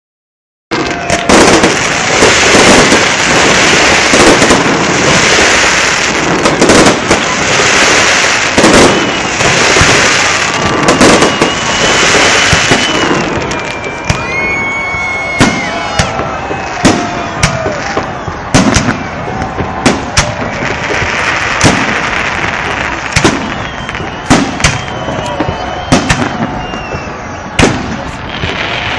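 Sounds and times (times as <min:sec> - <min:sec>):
fireworks bangs and crackling: 0:00.7 - 0:28.9
fireworks whistling: 0:00.7 - 0:28.9.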